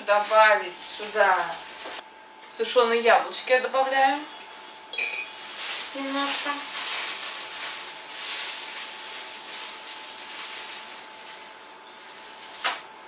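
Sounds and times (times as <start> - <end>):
plastic bag rustling and crinkling: 0.0 - 2.0, 4.5 - 13.0.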